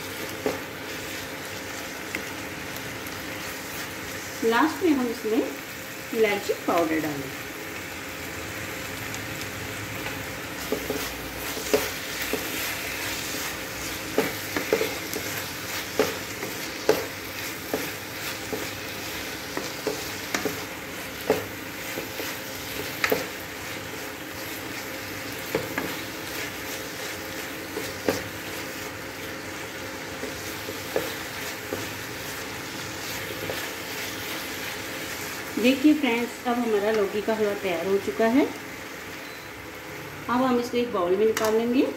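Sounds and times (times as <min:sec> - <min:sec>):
steady sizzle: 0:00.0 - 0:41.9.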